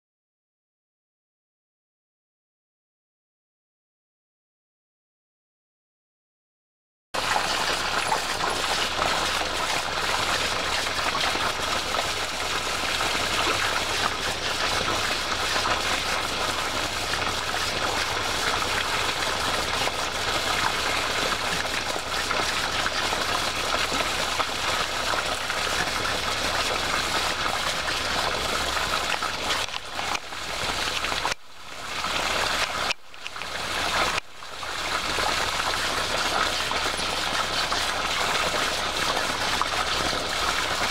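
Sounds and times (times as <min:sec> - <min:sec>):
water rushing from a hosepipe: 0:07.2 - 0:40.9.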